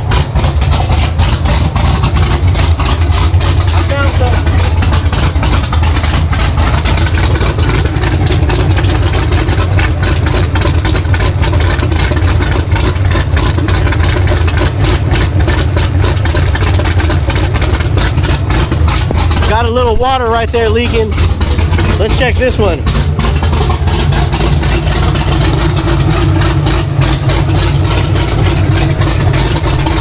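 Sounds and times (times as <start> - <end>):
loud choppy engine idling: 0.0 - 30.0.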